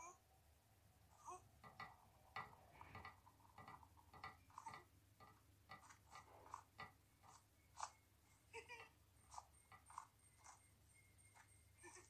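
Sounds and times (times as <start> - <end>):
faint irregular clicks: 1.1 - 8.1, 8.7 - 12.0.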